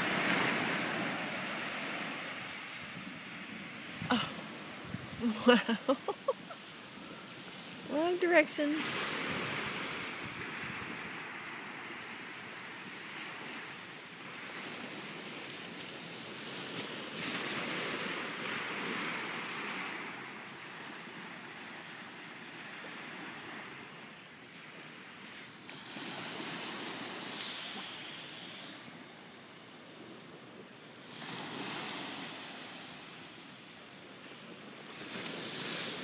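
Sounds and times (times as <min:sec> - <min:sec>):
ocean surf breaking: 0:00.0 - 0:36.0.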